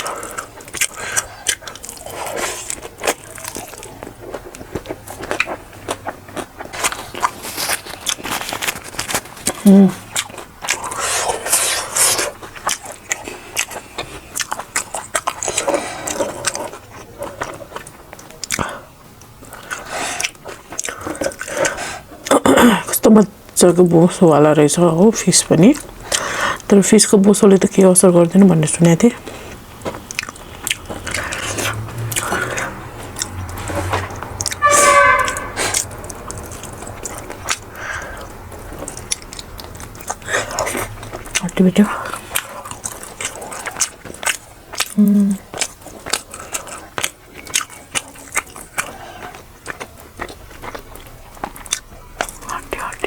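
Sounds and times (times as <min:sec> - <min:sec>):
person biting and chewing food: 0:00.0 - 0:22.4, 0:29.2 - 0:53.0.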